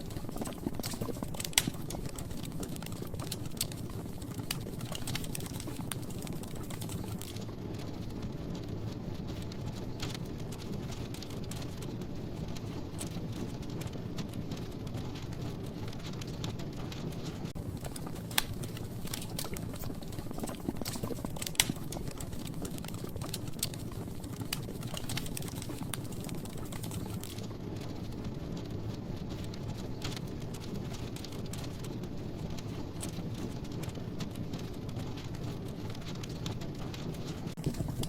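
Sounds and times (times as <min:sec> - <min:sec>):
fire crackles and pops: 0:00.0 - 0:38.0.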